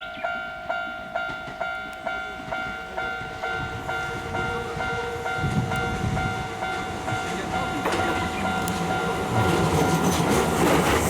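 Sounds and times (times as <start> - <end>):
train rumble: 0.2 - 11.0.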